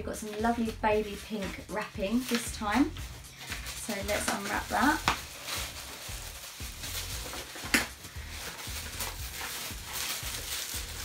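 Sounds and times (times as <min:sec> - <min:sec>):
paper crinkling and rustling: 0:00.0 - 0:11.0
sharp paper crackle: 0:00.2 - 0:11.0.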